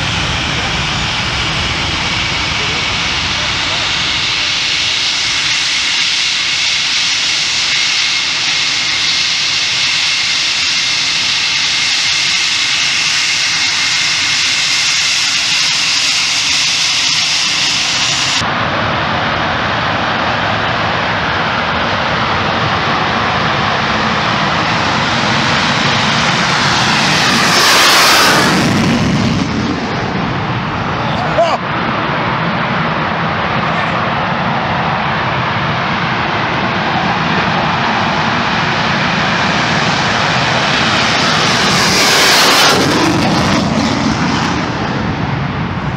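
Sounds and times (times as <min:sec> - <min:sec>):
jet engines whining: 0:00.0 - 0:45.9.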